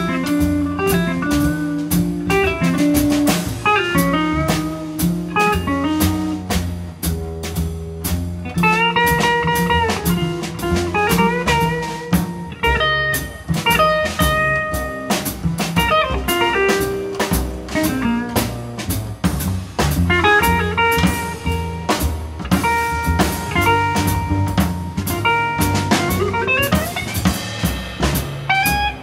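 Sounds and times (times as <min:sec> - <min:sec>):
electric guitar: 0:00.0 - 0:06.5, 0:08.4 - 0:18.8, 0:20.0 - 0:29.0
drum kit with cymbal strikes: 0:00.0 - 0:29.0
piano: 0:00.0 - 0:29.0
upright double bass: 0:00.0 - 0:29.0.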